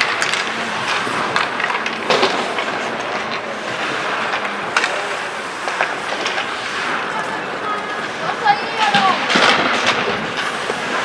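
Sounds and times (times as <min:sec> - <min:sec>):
hockey sticks and puck clacking: 0:00.0 - 0:11.0
skate blades scraping ice: 0:00.0 - 0:11.0.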